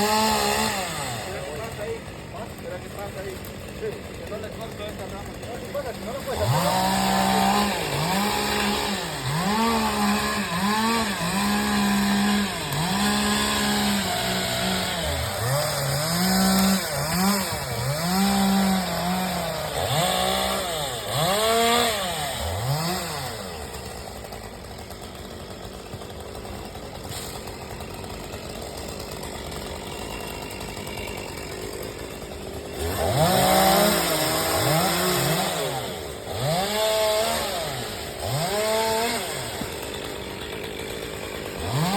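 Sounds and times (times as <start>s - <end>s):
chainsaw revving and cutting: 0.0s - 41.9s.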